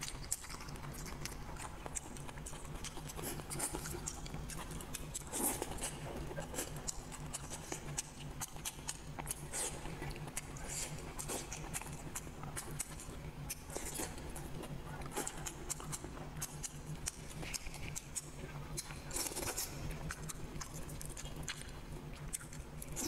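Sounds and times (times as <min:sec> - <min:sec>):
low steady hum: 0:00.0 - 0:23.0
wet chewing and smacking: 0:00.0 - 0:23.0.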